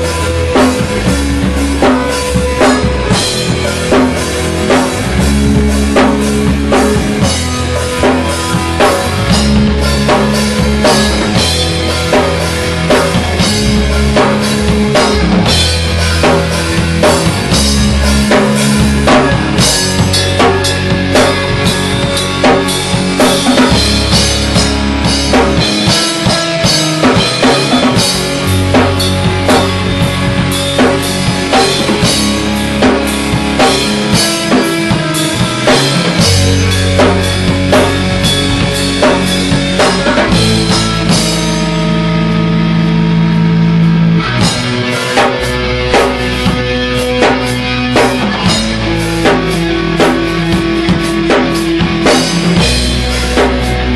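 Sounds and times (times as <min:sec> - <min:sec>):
heavy metal band playing: 0:00.0 - 0:53.9.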